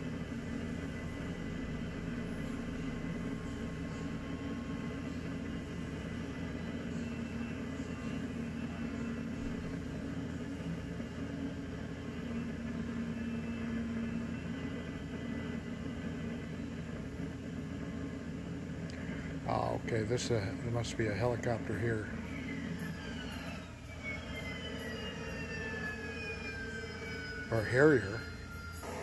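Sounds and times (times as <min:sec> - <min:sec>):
jet engine drone: 0:00.0 - 0:29.0.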